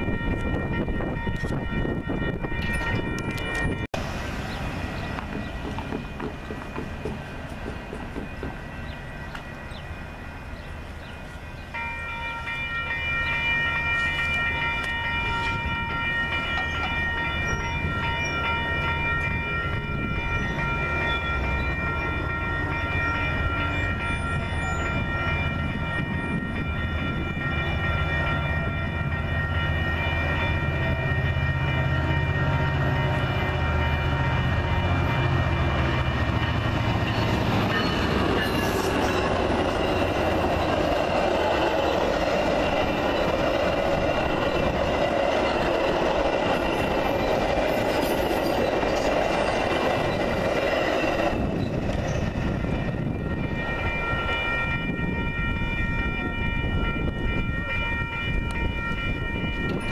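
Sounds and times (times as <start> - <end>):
crossing warning bell ringing: 0.0 - 59.9
train rumbling: 0.0 - 59.9.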